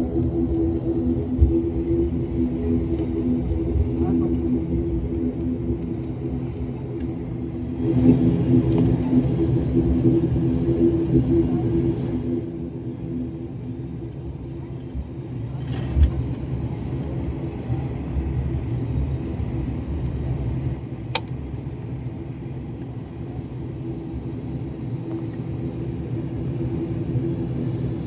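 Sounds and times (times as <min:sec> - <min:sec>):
airliner engine rumble: 0:00.0 - 0:28.0.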